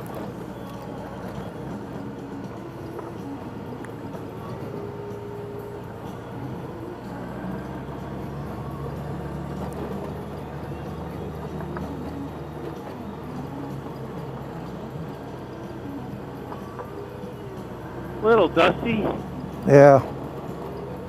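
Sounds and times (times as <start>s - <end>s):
motorcycle engine running: 0.0s - 21.0s
road noise: 0.0s - 21.0s
wind: 0.0s - 21.0s.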